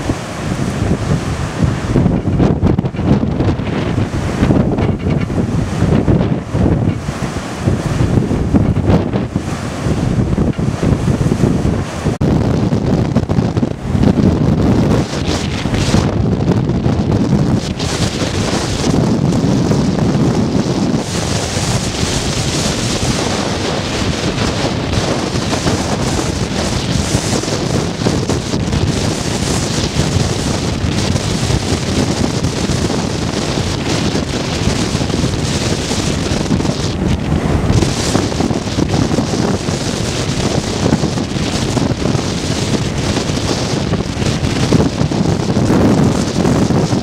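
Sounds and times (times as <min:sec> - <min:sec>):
heavy surf breaking: 0:00.0 - 0:47.0
strong wind buffeting microphone: 0:00.0 - 0:47.0.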